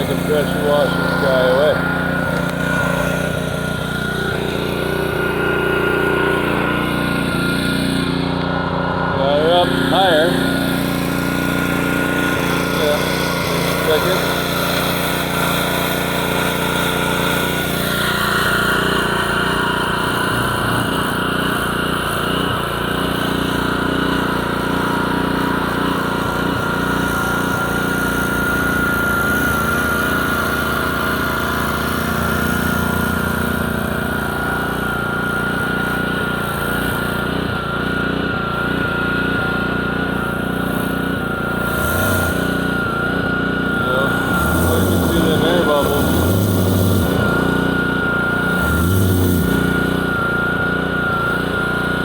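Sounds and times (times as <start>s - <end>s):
high whine: 0.0s - 52.0s
pressure washer engine running: 0.0s - 52.0s.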